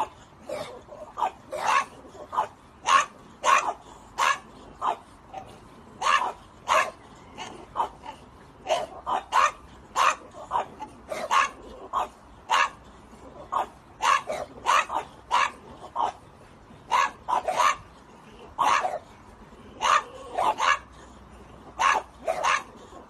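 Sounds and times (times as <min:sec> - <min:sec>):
dogs barking: 0:00.0 - 0:23.0.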